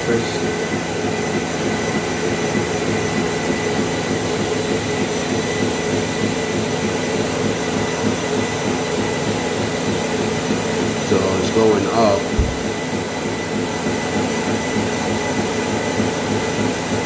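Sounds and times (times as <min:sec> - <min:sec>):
treadmill motor whirring hum: 0:00.0 - 0:17.0.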